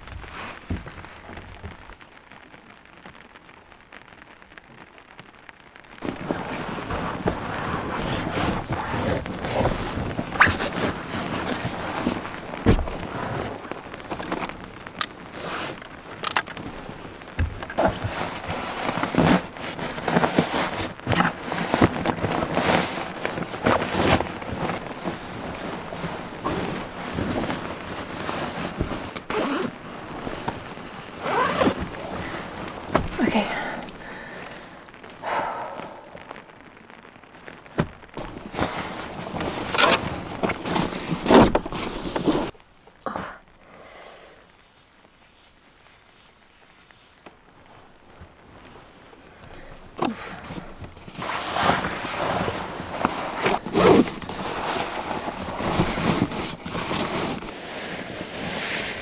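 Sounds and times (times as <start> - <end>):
nylon sleeping bag rustling: 0.0 - 43.0, 43.6 - 59.0.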